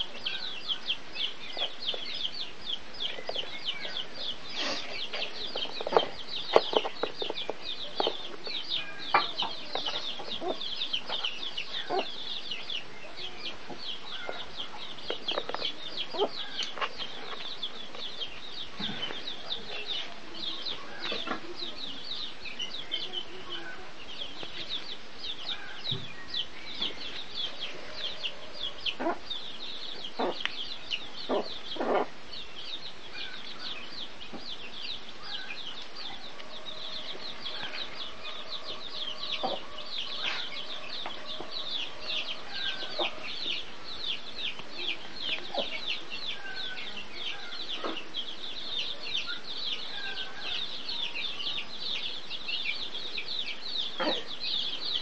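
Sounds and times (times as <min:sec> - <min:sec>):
birds peeping: 0:00.0 - 0:55.0.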